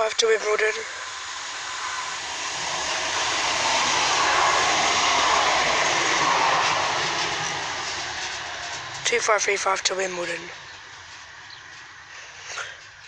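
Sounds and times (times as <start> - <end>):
tram wheels on rails passing: 0.0 - 12.2.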